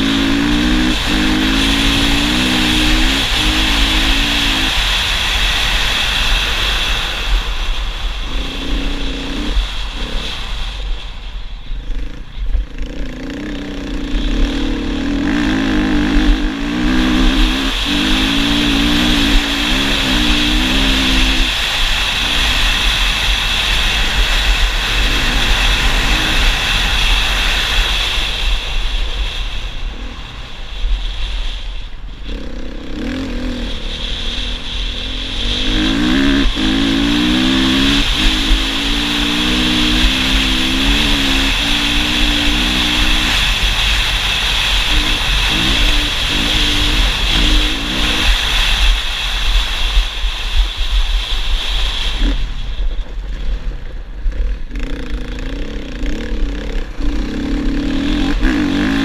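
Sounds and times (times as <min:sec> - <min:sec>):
motorcycle engine running hard: 0:00.0 - 0:59.0
wind rushing on microphone: 0:00.0 - 0:59.0.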